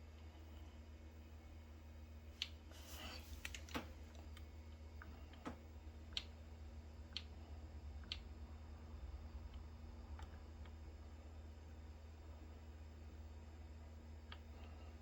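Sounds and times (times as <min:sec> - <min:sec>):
heat pump unit humming: 0:00.0 - 0:15.0.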